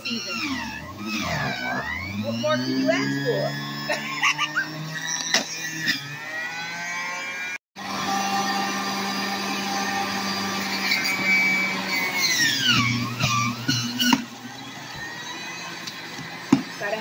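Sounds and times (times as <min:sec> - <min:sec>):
electric juicer motor whining: 0:00.0 - 0:17.0.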